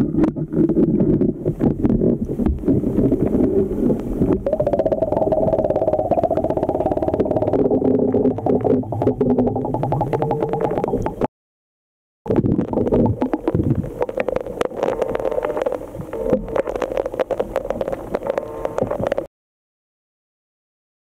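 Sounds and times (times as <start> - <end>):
muffled underwater gurgling: 0.0 - 11.3, 12.3 - 19.3.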